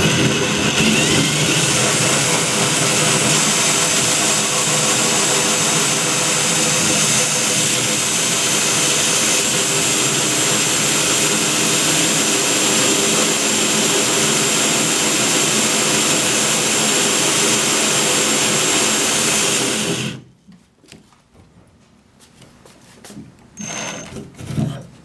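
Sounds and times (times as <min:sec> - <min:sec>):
high steady whine: 0:00.0 - 0:20.2, 0:23.6 - 0:24.2
power drill hole saw cutting wood: 0:00.0 - 0:20.2, 0:23.6 - 0:24.3.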